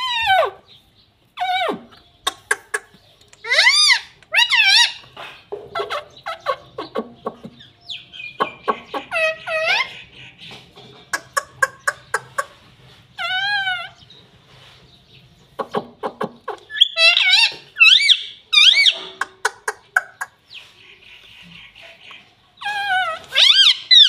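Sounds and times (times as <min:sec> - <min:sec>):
parakeets calling harshly: 0:00.0 - 0:14.2, 0:15.6 - 0:24.0.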